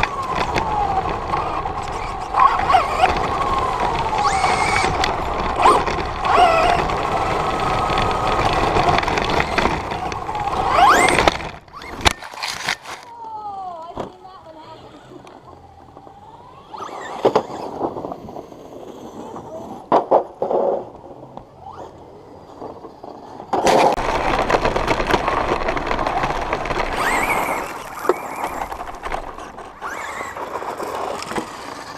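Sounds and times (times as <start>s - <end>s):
rc truck motor whine: 0.0s - 13.1s, 14.4s - 19.9s, 21.0s - 31.9s
wheels rolling and scraping: 0.0s - 31.9s.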